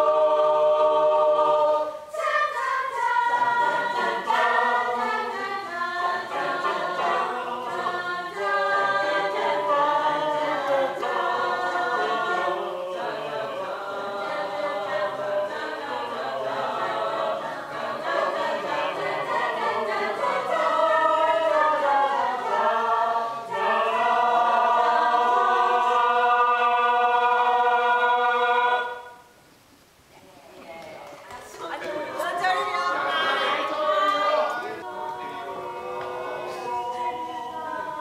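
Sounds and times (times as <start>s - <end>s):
choir singing sustained chords: 0.0s - 29.4s, 32.5s - 38.0s.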